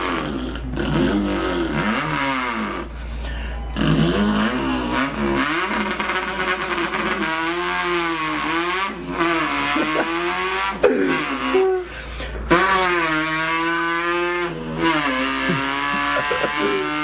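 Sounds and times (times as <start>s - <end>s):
man imitating car engine: 0.0s - 17.0s.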